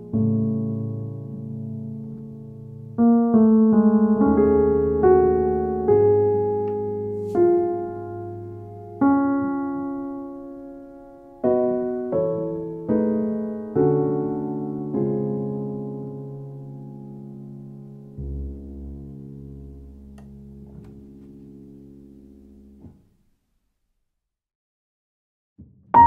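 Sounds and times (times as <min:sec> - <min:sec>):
slow solo piano piece: 0:00.0 - 0:23.2.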